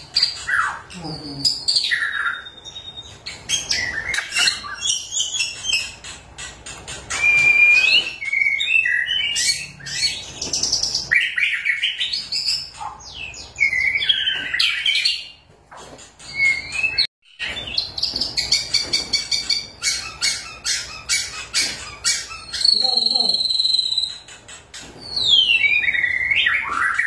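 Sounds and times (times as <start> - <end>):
bird whistled song: 1.5 - 15.4, 16.2 - 27.0.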